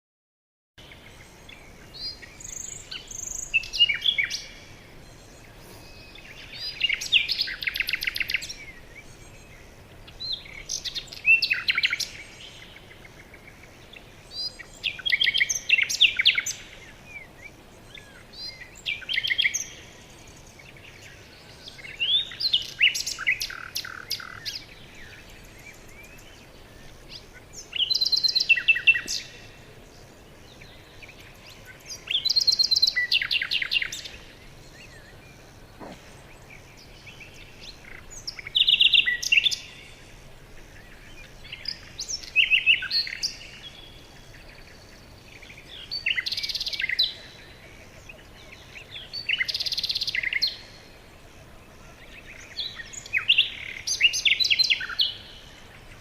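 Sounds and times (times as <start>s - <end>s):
songbird trilling and chirping: 0.8s - 50.9s, 51.8s - 56.0s
faint background hiss: 0.8s - 56.0s.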